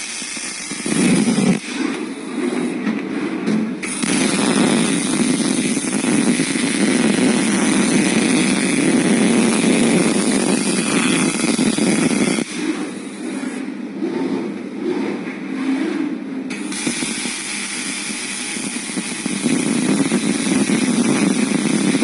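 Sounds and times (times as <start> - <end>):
arc welder welding: 0.0 - 3.1, 3.7 - 13.8, 16.5 - 22.0.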